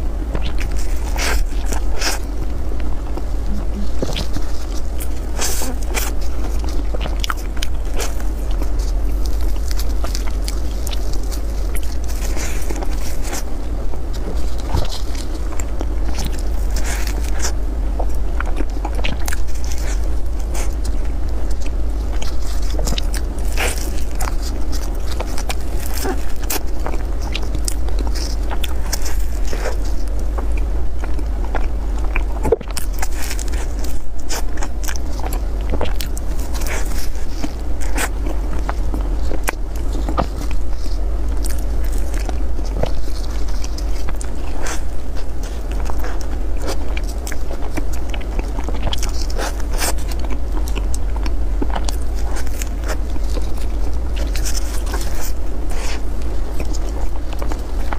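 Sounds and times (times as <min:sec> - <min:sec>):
biting and chewing pastry: 0:00.0 - 0:57.9
pastry crackling: 0:00.0 - 0:57.9
steady low hum: 0:00.0 - 0:57.9.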